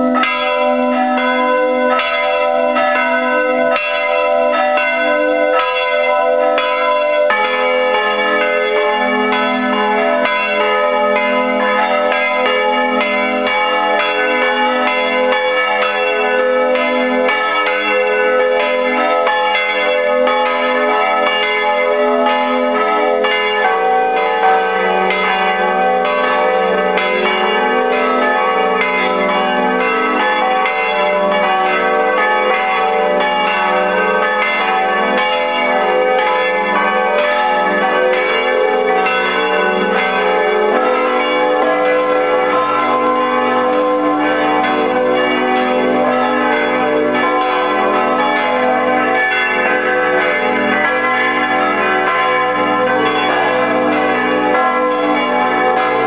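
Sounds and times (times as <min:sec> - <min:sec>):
church bells ringing in full peal: 0:00.0 - 0:56.0.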